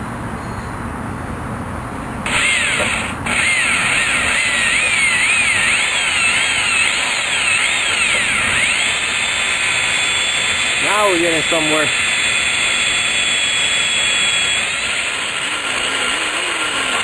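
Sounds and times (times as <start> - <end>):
electric drill boring through metal: 2.2 - 17.0.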